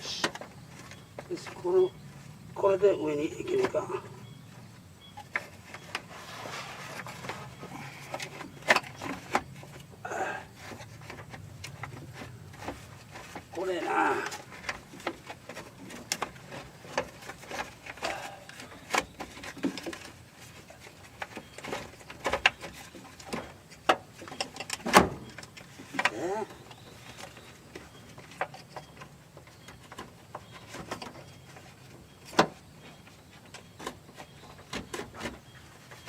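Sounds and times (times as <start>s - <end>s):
fan motor knocking and scraping: 5.2s - 36.0s.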